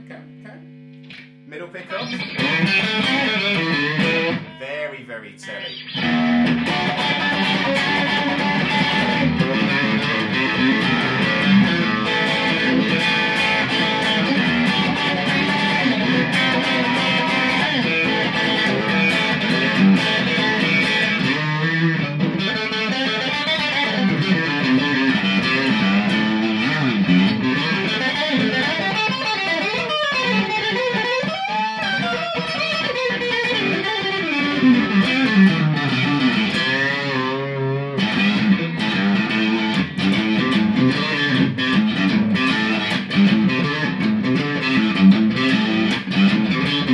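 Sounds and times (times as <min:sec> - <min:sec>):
overdriven electric guitar lead: 0:00.0 - 0:46.9.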